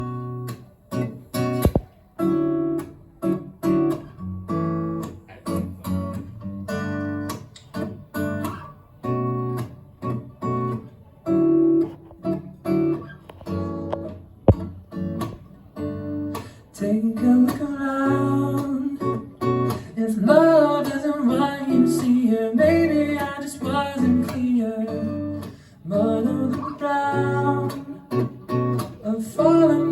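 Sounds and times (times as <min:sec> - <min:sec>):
acoustic guitar strumming: 0:00.0 - 0:29.9.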